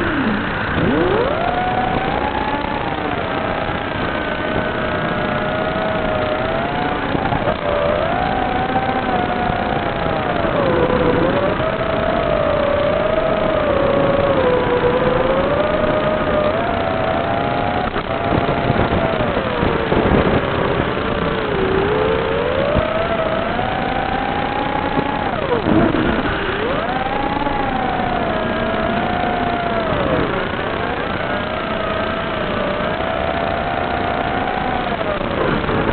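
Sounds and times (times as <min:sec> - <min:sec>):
quadcopter motors whining: 0:00.0 - 0:35.9.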